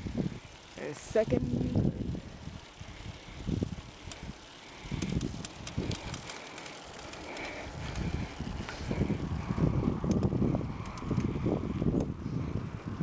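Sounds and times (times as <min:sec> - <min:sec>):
bicycle clicks: 0:00.0 - 0:13.0
wind buffeting microphone: 0:00.0 - 0:13.0.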